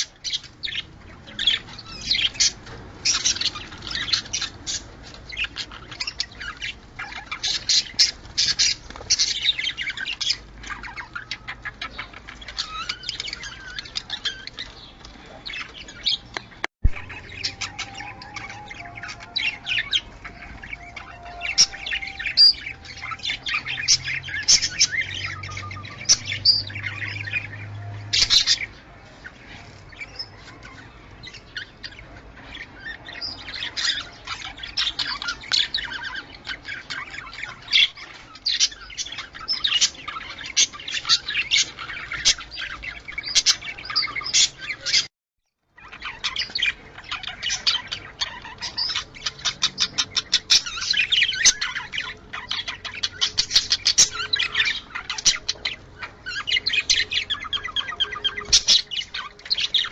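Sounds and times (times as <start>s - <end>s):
budgerigars chirping and chattering: 0.0s - 45.1s, 45.7s - 59.9s.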